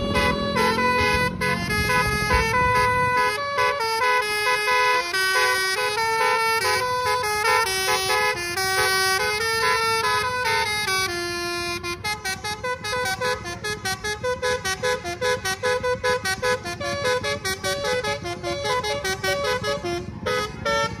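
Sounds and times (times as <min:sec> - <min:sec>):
bus horn playing a tune: 0:00.0 - 0:21.0.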